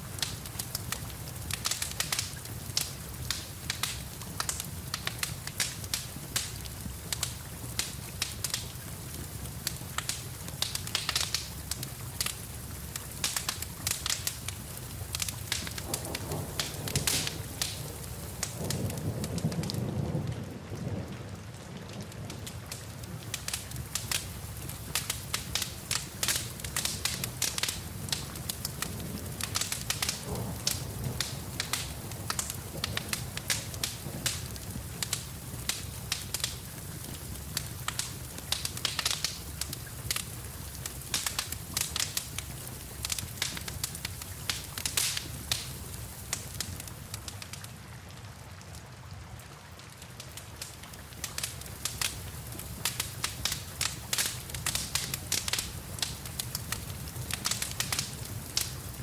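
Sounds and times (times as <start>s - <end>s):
steady rain: 0.0s - 59.0s
wood fire crackling and popping: 0.0s - 59.0s.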